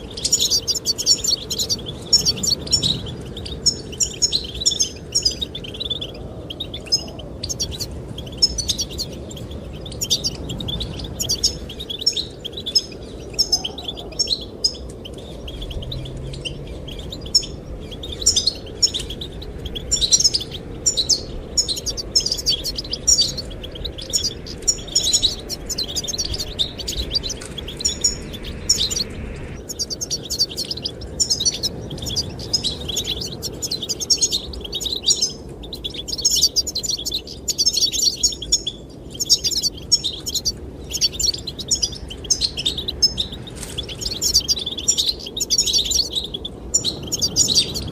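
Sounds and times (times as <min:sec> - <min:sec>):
goldfinch twittering: 0:00.0 - 0:47.9
low rush of wind: 0:00.0 - 0:47.9.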